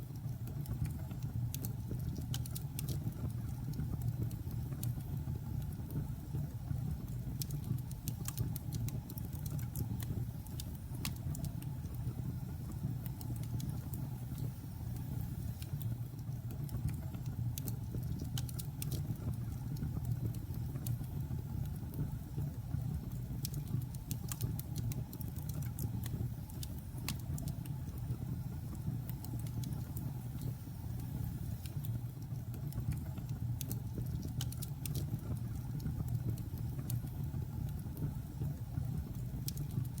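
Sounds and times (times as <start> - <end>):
wood crackling and popping: 0.0 - 40.0.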